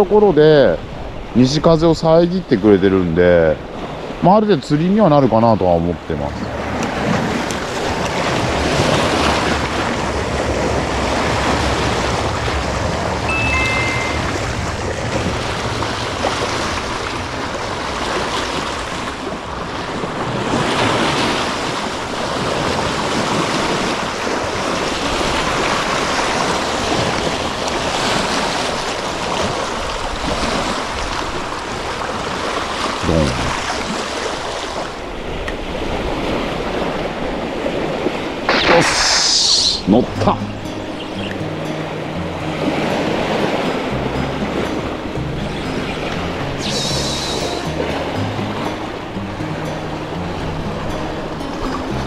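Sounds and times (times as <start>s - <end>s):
waves splashing over rocks: 0.0s - 52.0s.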